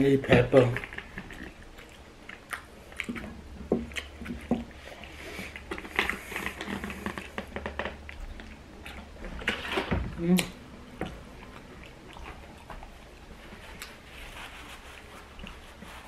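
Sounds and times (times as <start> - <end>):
person chewing food: 0.4 - 16.0.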